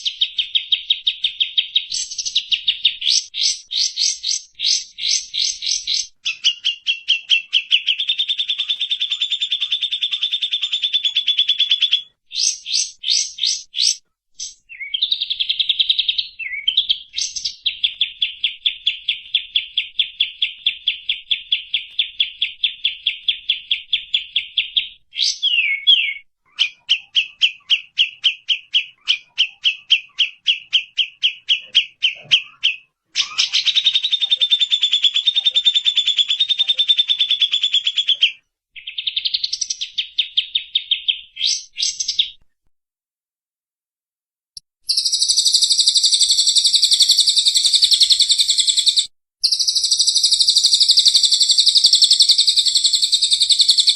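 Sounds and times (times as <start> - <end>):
high buzzy birdsong: 0.0 - 35.3, 44.9 - 53.9
dense bird trill: 0.0 - 42.4, 44.8 - 53.9
repeated sharp bird notes: 0.0 - 42.4, 44.6 - 53.9.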